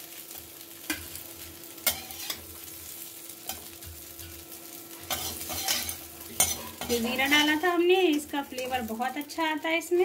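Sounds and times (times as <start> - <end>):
oil sizzling in a pan: 0.0 - 10.0.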